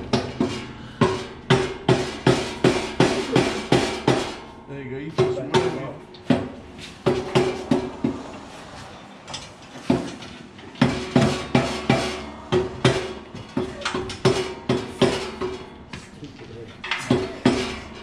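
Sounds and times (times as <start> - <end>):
hammer striking metal: 0.0 - 8.3, 10.8 - 15.9, 16.8 - 18.0.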